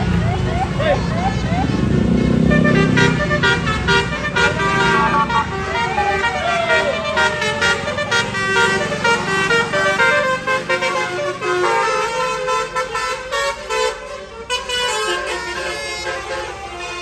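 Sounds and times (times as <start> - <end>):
bus engine running: 0.0 - 17.0
musical air horn playing a tune: 2.0 - 17.0.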